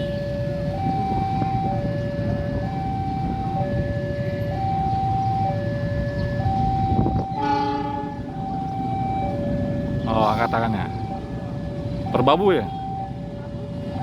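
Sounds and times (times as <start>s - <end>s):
two-note crossing warning siren: 0.0s - 14.0s.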